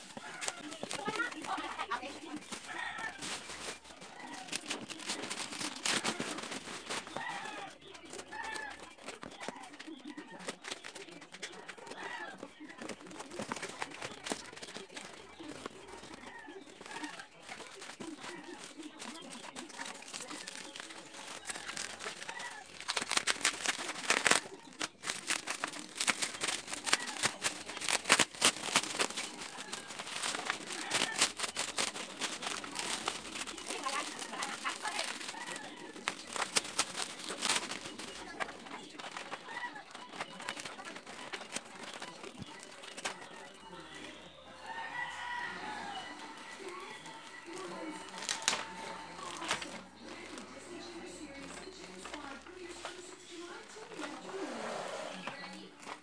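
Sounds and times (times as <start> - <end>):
plastic packaging crinkling: 0.0 - 56.0
rustling: 0.0 - 56.0.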